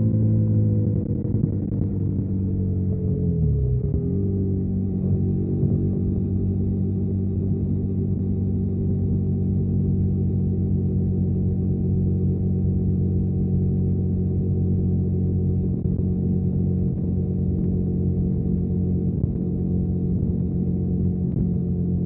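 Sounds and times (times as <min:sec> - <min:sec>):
motorcycle engine running steadily: 0:00.0 - 0:22.0.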